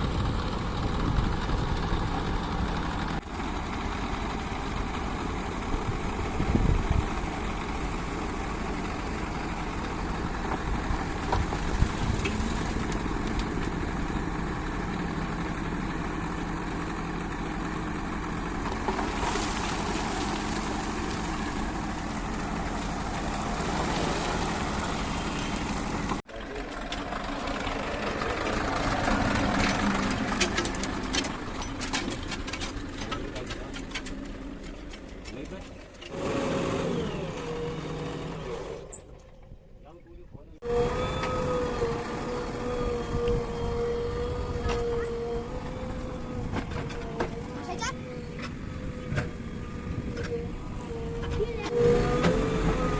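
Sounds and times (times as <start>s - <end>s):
diesel engine of machinery running: 0.0s - 39.6s, 40.6s - 52.9s.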